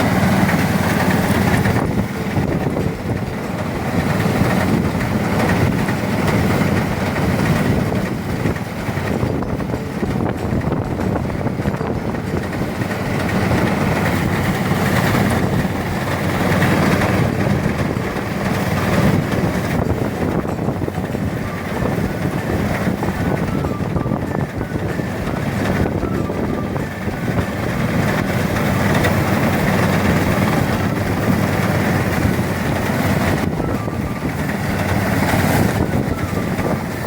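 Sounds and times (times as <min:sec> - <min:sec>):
threshing machine rumbling: 0:00.0 - 0:37.0.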